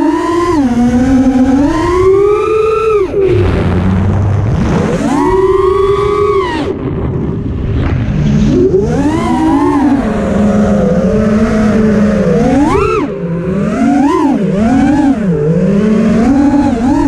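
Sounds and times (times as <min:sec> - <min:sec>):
quadcopter motors whining: 0:00.0 - 0:07.0, 0:08.1 - 0:17.0.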